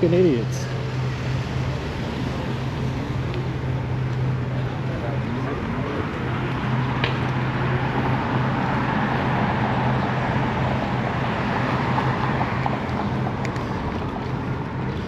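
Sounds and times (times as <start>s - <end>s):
constant low hum: 0.0s - 15.0s
road traffic noise: 0.0s - 15.0s.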